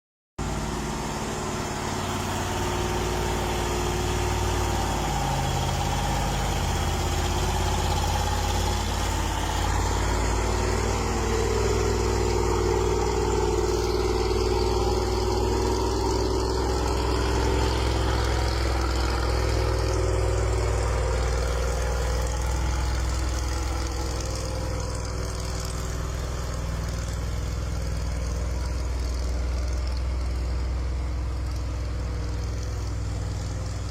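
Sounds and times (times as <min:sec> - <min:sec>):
truck engine under load: 0:00.4 - 0:33.9.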